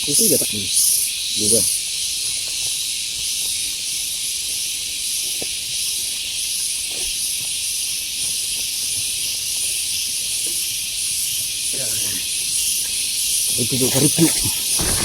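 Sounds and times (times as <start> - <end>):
insect chorus hissing: 0.0 - 15.0.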